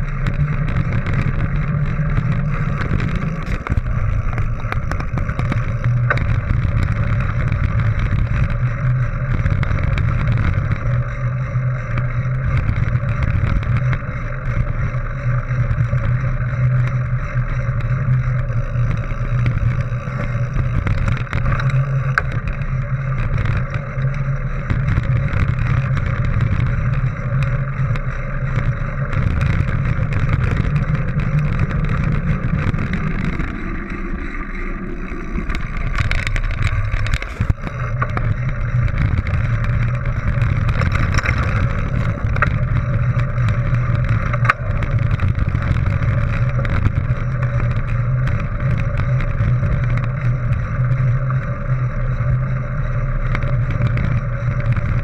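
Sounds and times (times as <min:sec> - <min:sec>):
bike tyres rumbling on gravel: 0:00.0 - 0:55.0
small rattles and clicks: 0:00.0 - 0:55.0
wind on microphone: 0:00.0 - 0:55.0.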